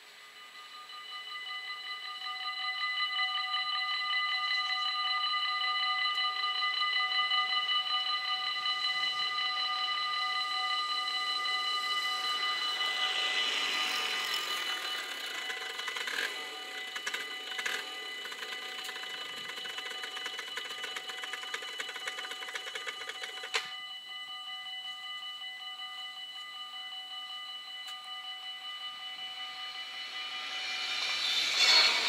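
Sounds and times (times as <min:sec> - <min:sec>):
level crossing bells ringing: 0:00.0 - 0:31.6
faint ringing tones: 0:00.0 - 0:32.0.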